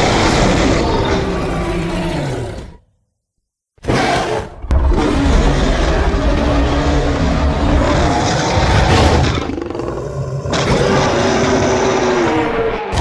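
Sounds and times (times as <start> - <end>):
orangutan roaring calls: 0.0 - 2.8, 3.8 - 13.0.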